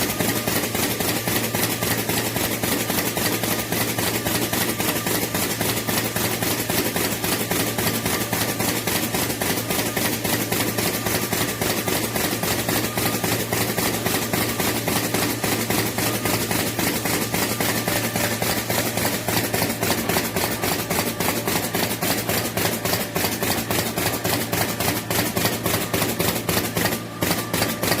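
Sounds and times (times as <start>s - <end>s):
machine clacking rapidly: 0.0s - 28.0s.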